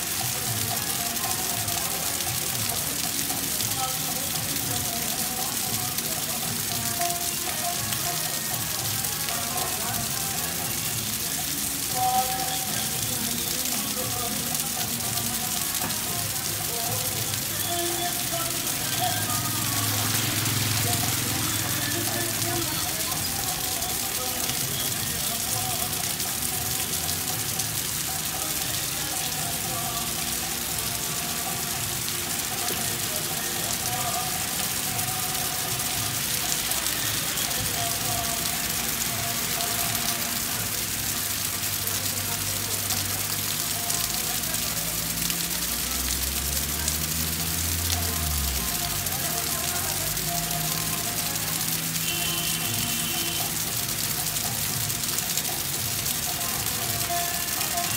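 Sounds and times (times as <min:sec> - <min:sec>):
heavy rain on pavement and cars: 0:00.0 - 0:57.9.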